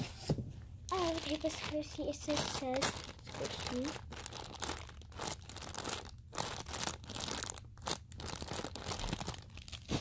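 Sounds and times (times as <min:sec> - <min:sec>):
taped paper crinkling: 0:00.9 - 0:10.0.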